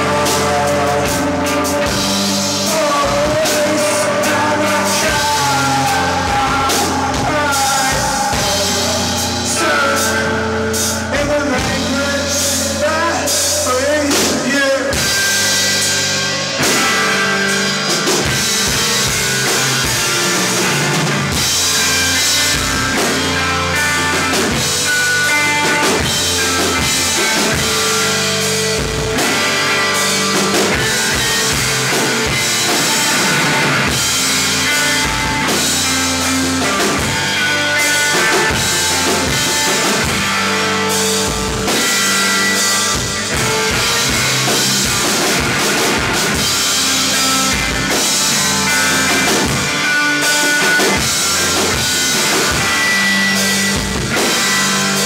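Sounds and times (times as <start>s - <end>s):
drum kit with cymbals: 0.0s - 55.0s
guitar: 0.0s - 55.0s
rock band playing: 0.0s - 55.0s.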